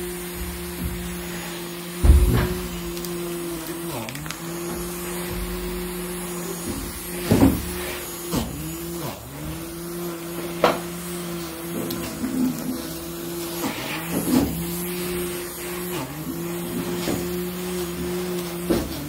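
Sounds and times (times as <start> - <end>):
small electric motor humming: 0.0 - 19.0.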